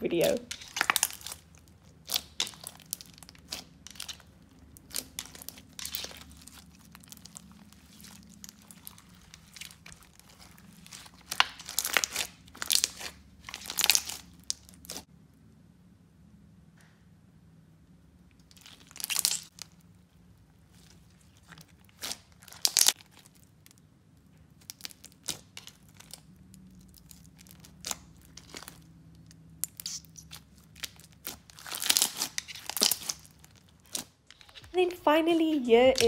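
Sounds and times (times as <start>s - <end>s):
bead slime crunching and crackling: 0.1s - 15.1s, 18.3s - 36.0s.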